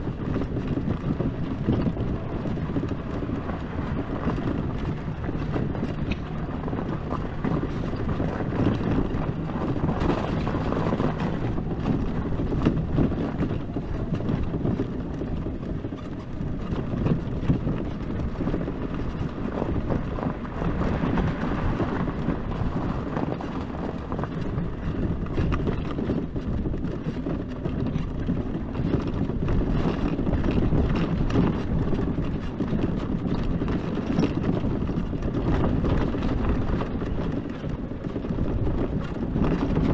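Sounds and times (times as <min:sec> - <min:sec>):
knocks and rattles: 0:00.0 - 0:39.9
rumble of tyres and suspension: 0:00.0 - 0:39.9
wind buffeting microphone: 0:00.0 - 0:39.9.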